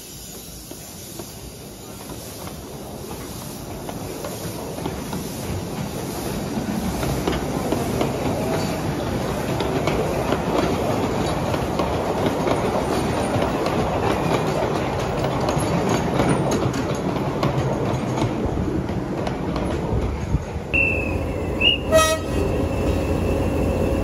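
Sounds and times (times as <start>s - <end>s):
small wheels rumbling on track: 0.1s - 24.0s
wheels clicking over rail joints: 0.3s - 23.2s.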